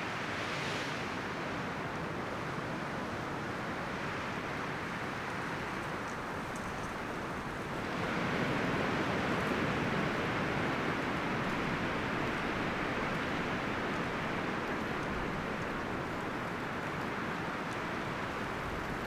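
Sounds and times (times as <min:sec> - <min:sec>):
wind rustling through leaves: 0:03.6 - 0:19.0.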